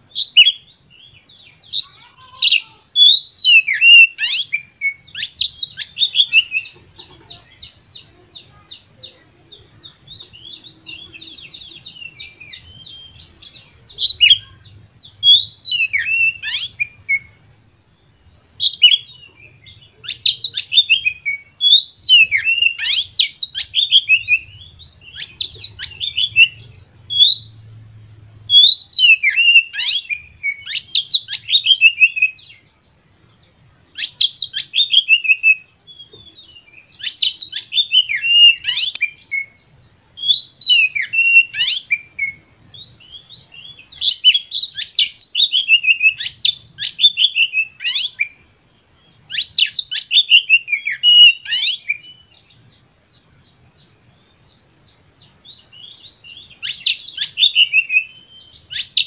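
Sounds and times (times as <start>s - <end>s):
bird singing whistled notes: 0.0s - 32.8s, 33.4s - 59.0s.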